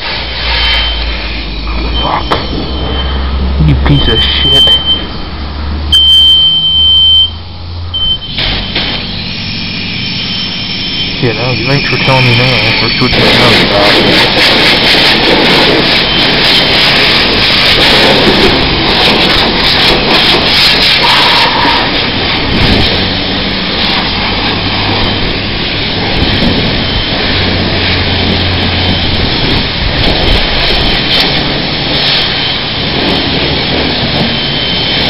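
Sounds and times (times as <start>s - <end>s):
high-pressure water spraying: 0.0s - 3.4s, 8.3s - 35.0s
low hum: 0.0s - 35.0s.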